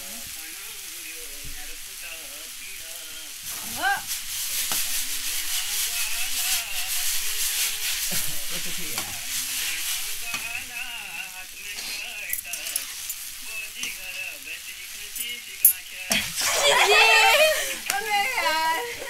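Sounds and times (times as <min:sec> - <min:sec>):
noodles sizzling in a frying pan: 0:00.0 - 0:19.0.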